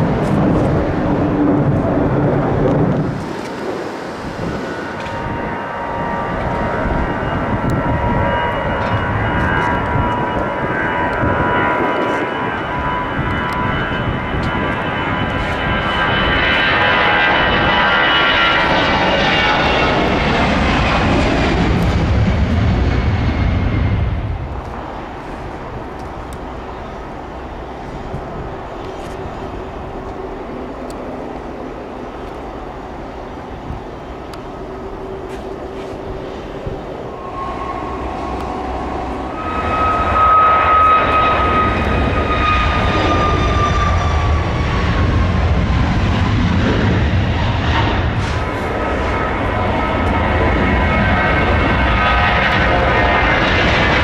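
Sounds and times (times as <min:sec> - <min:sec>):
jet engine deep rumble: 0:00.0 - 0:54.0
jet engine whine: 0:00.0 - 0:54.0.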